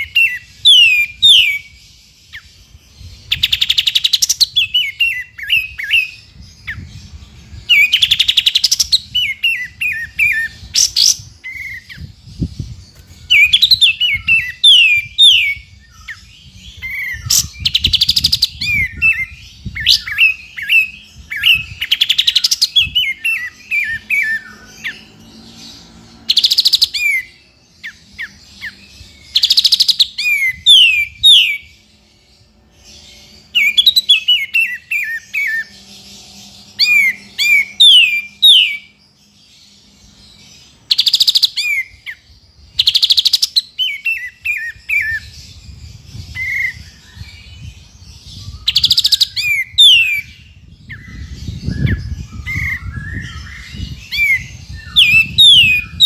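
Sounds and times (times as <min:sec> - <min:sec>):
bird singing rattling phrases: 0:00.0 - 0:56.0.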